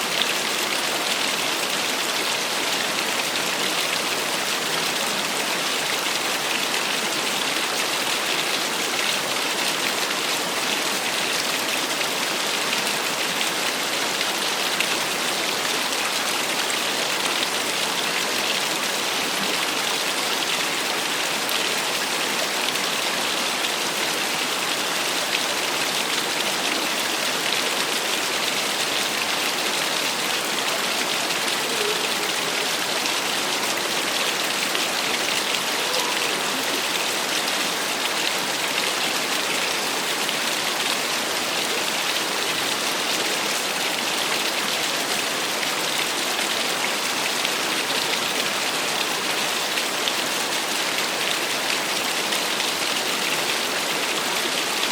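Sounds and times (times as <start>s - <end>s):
small waterfall splashing: 0.0s - 54.9s.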